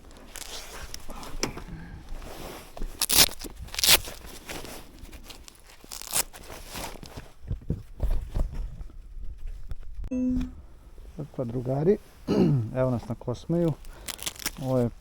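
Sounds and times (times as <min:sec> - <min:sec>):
close rustling and crackling: 0:00.0 - 0:10.0, 0:11.1 - 0:15.0.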